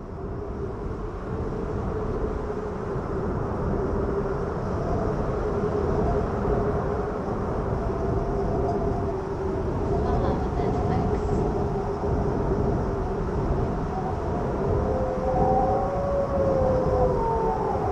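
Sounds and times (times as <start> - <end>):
howling snowstorm wind: 0.0 - 17.9.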